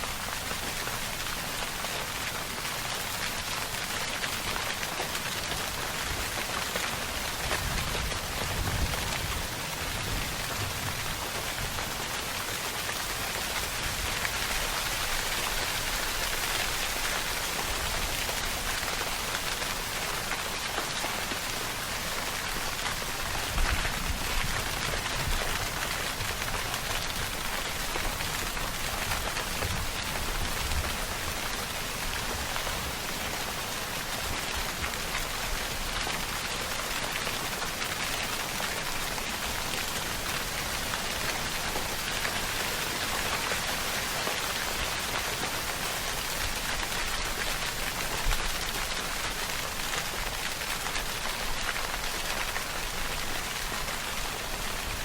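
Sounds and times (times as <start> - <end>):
rain hissing on a surface: 0.0 - 55.0.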